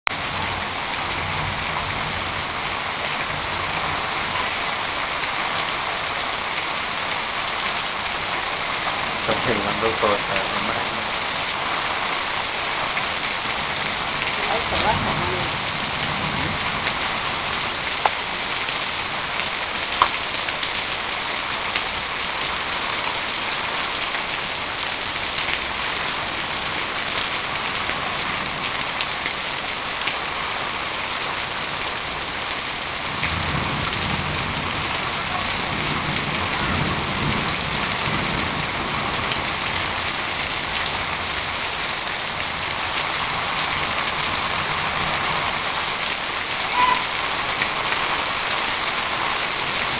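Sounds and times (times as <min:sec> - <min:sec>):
heavy rain pouring: 0:00.1 - 0:49.9.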